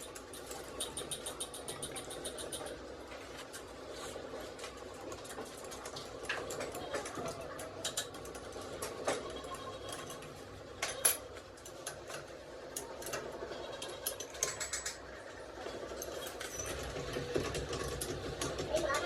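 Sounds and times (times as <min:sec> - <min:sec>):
tools and metal parts clicking: 0:00.0 - 0:03.8, 0:04.6 - 0:19.0.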